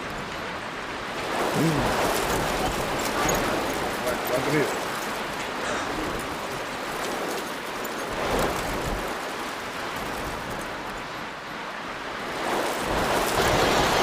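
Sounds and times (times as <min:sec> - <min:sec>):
rain: 0:00.0 - 0:14.0
wind: 0:00.0 - 0:14.0.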